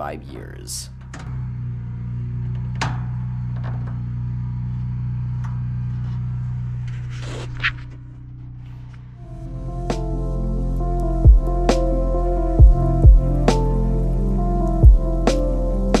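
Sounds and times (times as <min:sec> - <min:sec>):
space heater humming: 0:00.0 - 0:07.0, 0:09.2 - 0:16.0.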